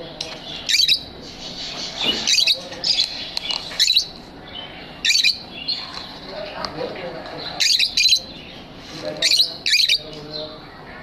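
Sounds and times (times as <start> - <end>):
soft bird twittering: 0.0 - 6.6, 7.4 - 11.0
loud high-pitched bird chirps: 0.4 - 6.1, 7.4 - 10.8.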